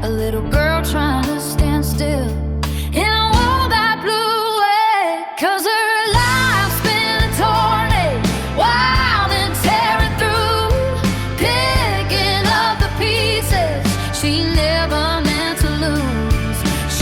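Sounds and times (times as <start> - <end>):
pop-rock song with vocals: 0.0 - 17.0.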